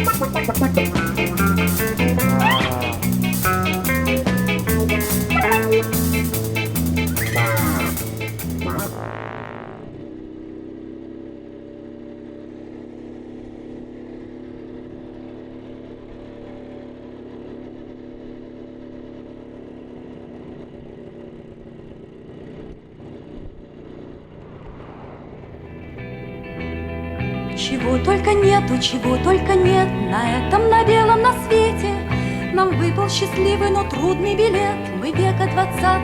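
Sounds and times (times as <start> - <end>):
engine hum: 0.0 - 36.0.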